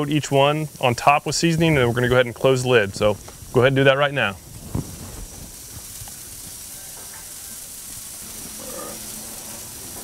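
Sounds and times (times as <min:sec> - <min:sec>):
fish sizzling on a grill: 0:00.0 - 0:10.0.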